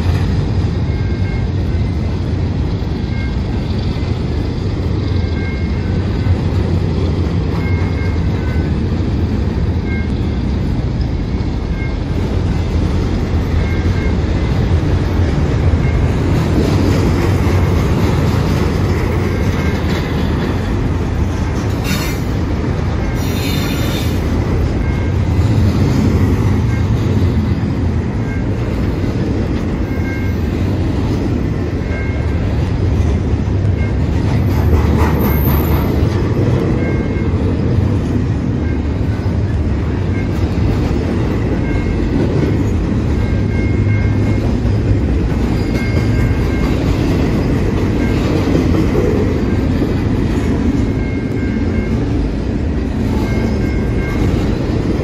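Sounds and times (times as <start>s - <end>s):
crossing bell dinging: 0.0s - 55.0s
steel wheels rumbling on rail: 0.0s - 55.0s.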